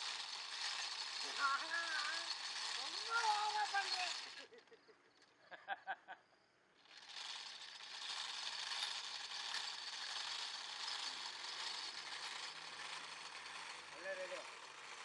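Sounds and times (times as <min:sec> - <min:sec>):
spinning wheel whirring and rattling: 0:00.0 - 0:05.3, 0:06.8 - 0:15.0.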